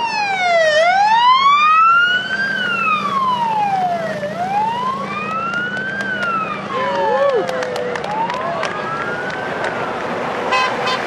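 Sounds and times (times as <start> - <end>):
wailing siren: 0.0 - 10.5
traffic engines rumbling: 0.0 - 11.0.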